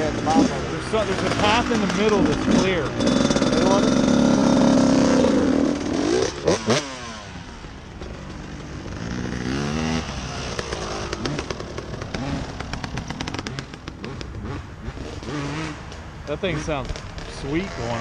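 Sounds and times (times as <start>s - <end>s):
dirt bike engine revving: 0.0s - 18.0s
sharp clatters: 0.0s - 18.0s.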